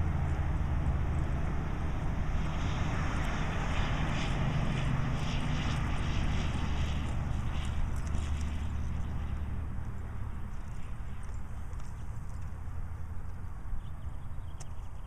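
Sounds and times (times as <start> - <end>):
horse hoofbeats on dirt: 0.0 - 13.5
low engine drone: 0.0 - 15.0.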